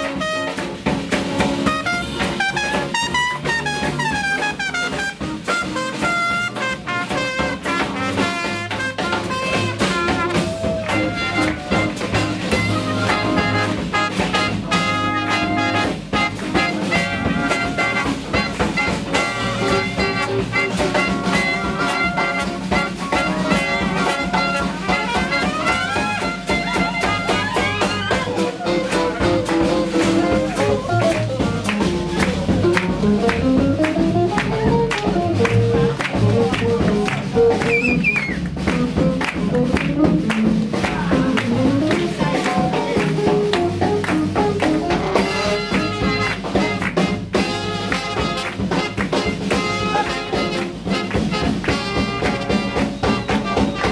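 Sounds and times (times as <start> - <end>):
clarinet: 0.0 - 0.7, 1.6 - 53.9
drum kit swing beat: 0.0 - 53.9
trombone: 0.0 - 53.9
trumpet: 0.0 - 53.9
walking double bass: 0.0 - 53.9.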